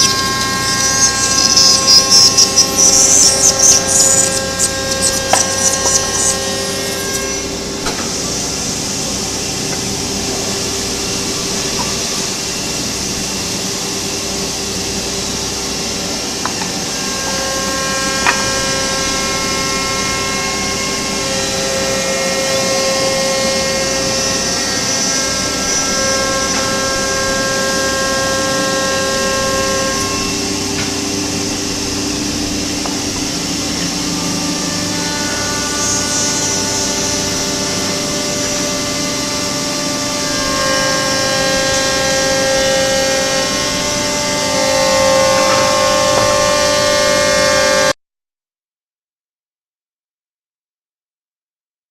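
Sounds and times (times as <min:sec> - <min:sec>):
noisy cutting haze: 0:00.0 - 0:47.7
cnc machine spindle whining: 0:00.0 - 0:48.0.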